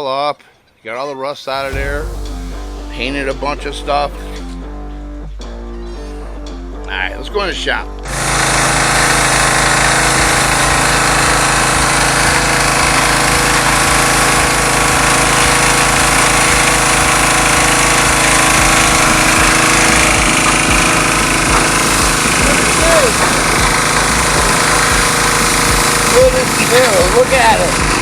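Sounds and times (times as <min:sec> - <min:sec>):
loud machine pulsing: 0:01.6 - 0:06.6, 0:08.0 - 0:28.0.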